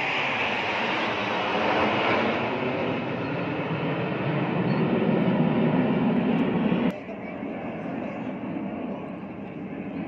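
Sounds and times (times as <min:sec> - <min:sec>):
jet aircraft roaring past: 0:00.0 - 0:10.0.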